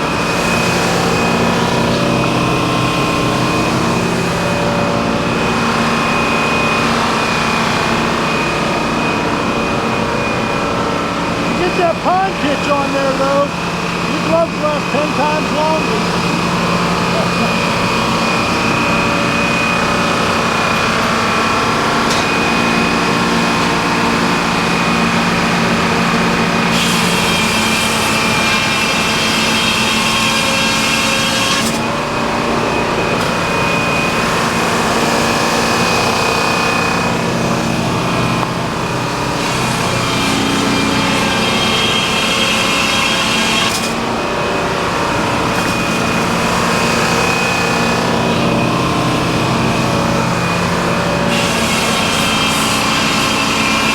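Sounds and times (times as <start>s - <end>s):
sawmill blade cutting log: 0.0s - 9.4s, 10.3s - 53.9s.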